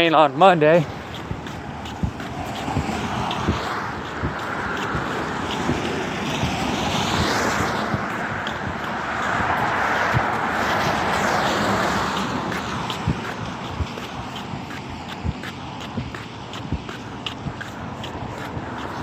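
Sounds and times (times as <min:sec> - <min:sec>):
cars passing on wet road: 0:00.0 - 0:19.0
wind on microphone: 0:00.0 - 0:19.0
runner's footfalls: 0:00.7 - 0:19.0.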